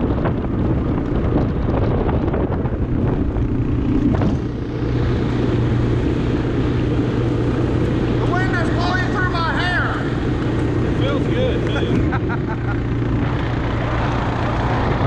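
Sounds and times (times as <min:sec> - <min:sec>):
atv engine running: 0:00.0 - 0:15.0
tyre noise on road: 0:00.0 - 0:15.0
wind rushing over microphone: 0:00.0 - 0:15.0.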